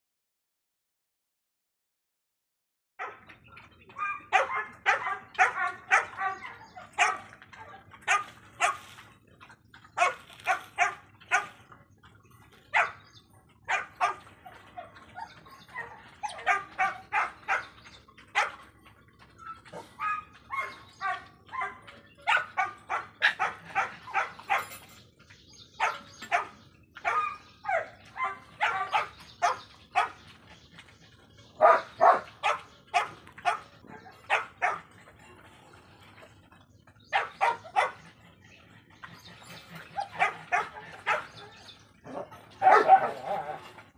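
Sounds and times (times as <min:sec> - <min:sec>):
dogs barking: 0:03.0 - 0:35.5, 0:36.2 - 0:43.9.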